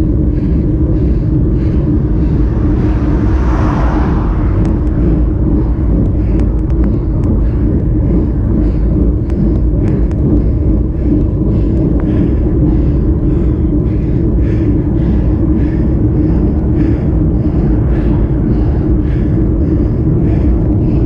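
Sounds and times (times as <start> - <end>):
road rumble: 0.0 - 21.0
wind on microphone: 0.0 - 21.0.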